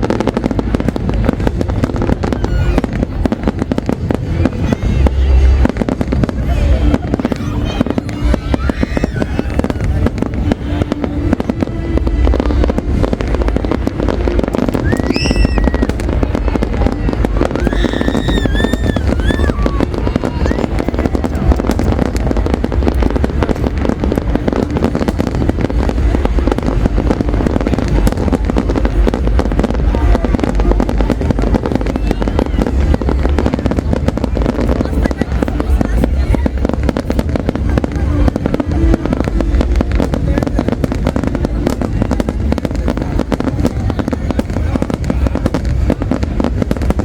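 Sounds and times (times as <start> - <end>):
fireworks bangs and crackling: 0.0 - 47.0
high whistling fireworks: 0.0 - 47.0.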